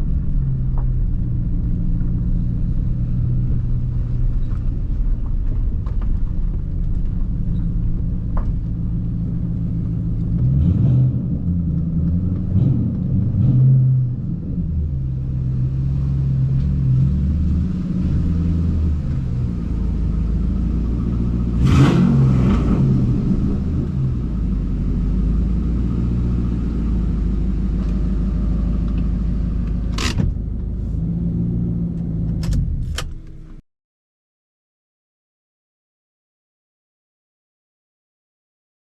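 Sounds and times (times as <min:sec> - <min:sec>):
car engine running: 0:00.0 - 0:13.4, 0:14.0 - 0:33.6.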